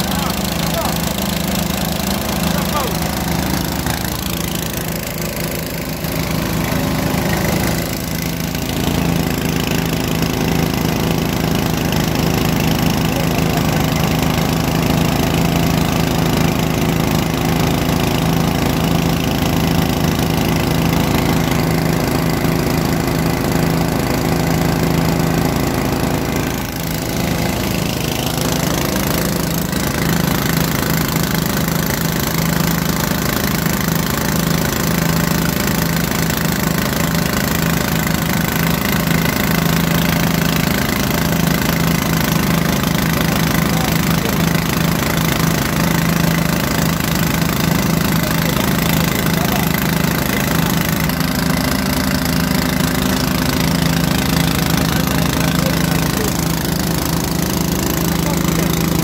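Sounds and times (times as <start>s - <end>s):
drilling rig engine droning: 0.0s - 59.0s.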